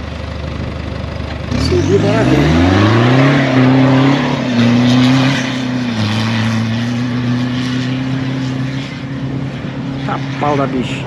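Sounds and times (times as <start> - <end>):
truck engine at high revs: 0.0 - 11.0.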